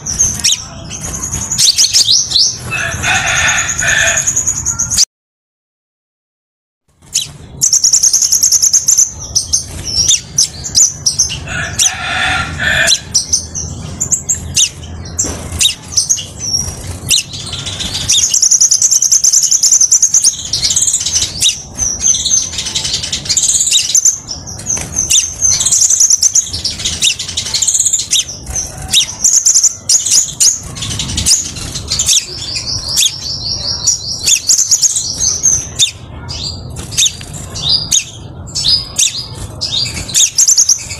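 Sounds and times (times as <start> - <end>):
bird chirping and trilling: 0.0 - 5.1, 7.0 - 40.9.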